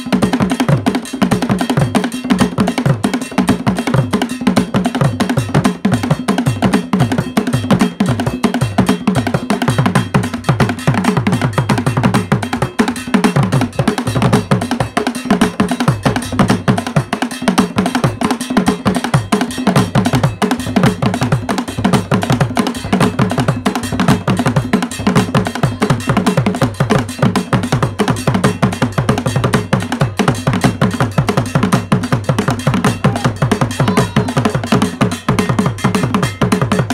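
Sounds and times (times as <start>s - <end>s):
drum ensemble playing: 0.0s - 36.9s.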